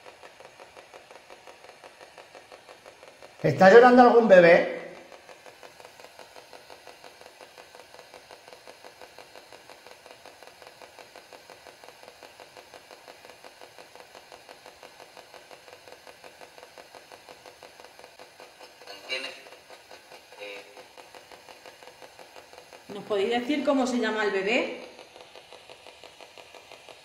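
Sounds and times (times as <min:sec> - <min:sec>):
faint rapid device pulsing: 0:00.0 - 0:27.0.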